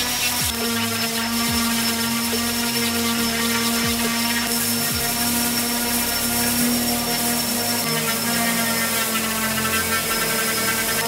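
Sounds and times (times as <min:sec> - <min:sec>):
electric sander whining: 0:00.0 - 0:11.0.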